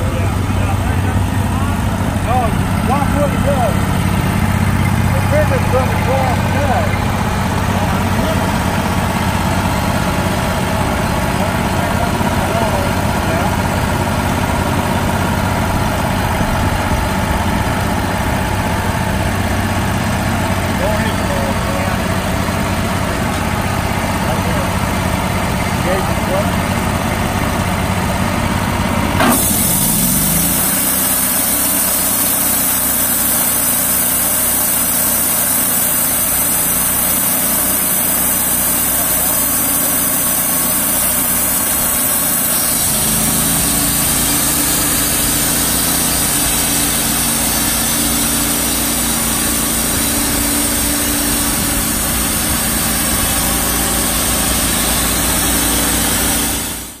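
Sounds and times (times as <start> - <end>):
band saw cutting log: 0.0 - 16.7, 17.6 - 57.0
sawmill engine running: 0.0 - 57.0.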